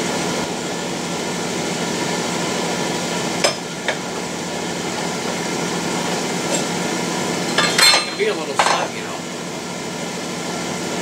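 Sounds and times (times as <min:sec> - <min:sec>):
shop machinery hum: 0:00.0 - 0:11.0.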